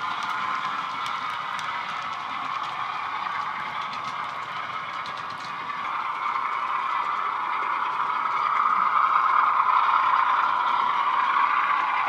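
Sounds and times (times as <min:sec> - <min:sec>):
model train diesel engine sound: 0:00.0 - 0:12.0.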